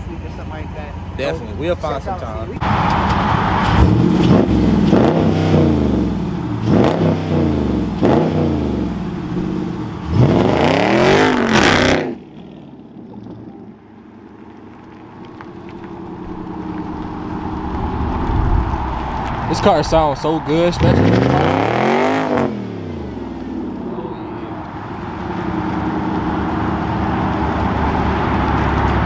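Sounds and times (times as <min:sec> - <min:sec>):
lower engine sound: 0:00.0 - 0:29.0
car engine revving: 0:02.5 - 0:29.0.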